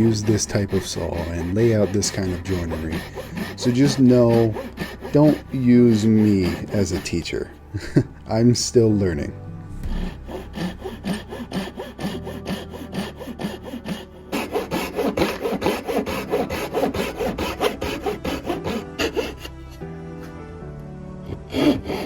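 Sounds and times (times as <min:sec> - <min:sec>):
hand saw cutting wood: 0:00.0 - 0:07.6, 0:09.8 - 0:19.9, 0:21.2 - 0:22.0.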